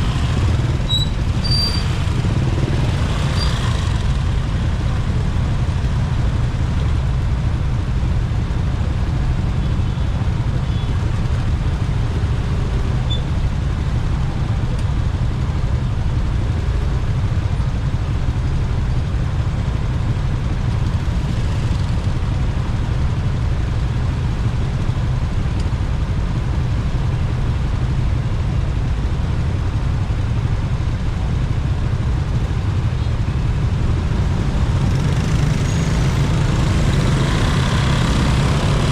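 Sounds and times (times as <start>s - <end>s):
motorcycle engine running: 0.0s - 38.9s
traffic: 0.0s - 38.9s.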